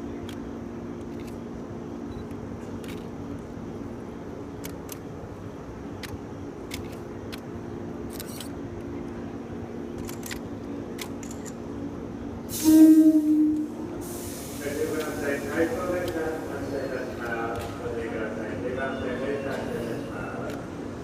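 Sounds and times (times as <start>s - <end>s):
electric train humming: 0.0s - 21.0s.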